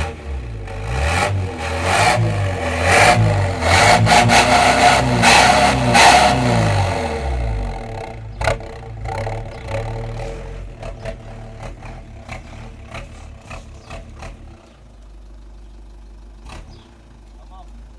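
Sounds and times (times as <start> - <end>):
exhaust puffs and ticks: 0.0 - 17.9
van engine revving and idling: 0.0 - 17.9.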